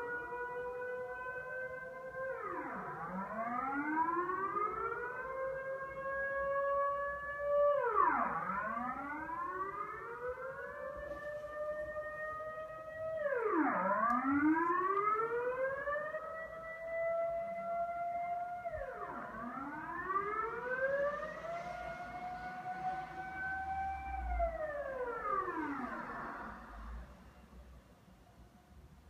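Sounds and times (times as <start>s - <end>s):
warning siren wailing: 0.0s - 27.2s.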